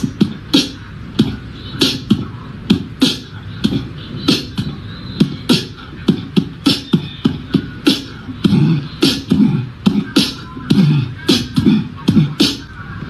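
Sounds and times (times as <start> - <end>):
beatboxed rhythm: 0.0 - 13.0.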